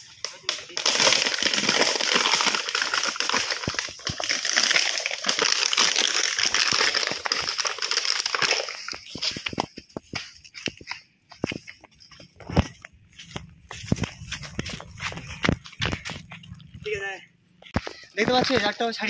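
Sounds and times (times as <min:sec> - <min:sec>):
plastic jar crinkling and scraping: 0:00.0 - 0:17.0.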